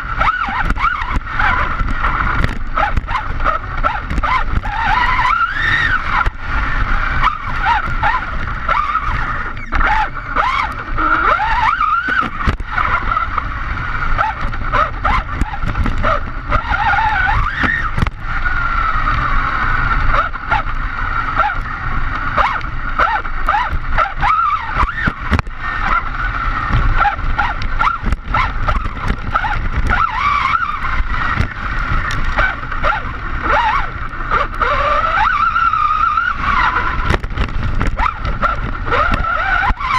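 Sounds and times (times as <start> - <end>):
electric motor whining: 0.0 - 39.9
tyres rumbling on asphalt: 0.0 - 39.9
wind: 0.0 - 39.9.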